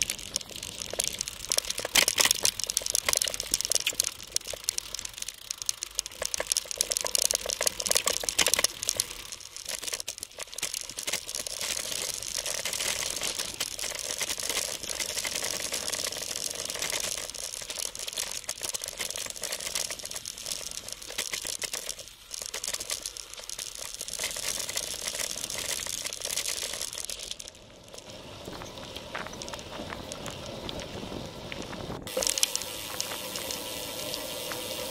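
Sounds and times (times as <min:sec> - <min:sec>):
bike rattling: 0:00.0 - 0:34.9
bike tyres crunching on gravel: 0:00.0 - 0:34.9
tyres hissing on pavement: 0:00.0 - 0:34.9.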